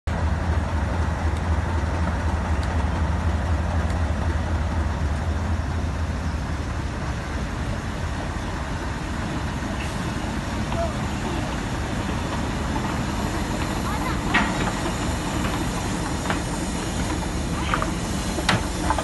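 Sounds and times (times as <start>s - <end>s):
diesel locomotive engine idling: 0.1s - 19.0s
steam locomotive passing: 0.1s - 19.0s.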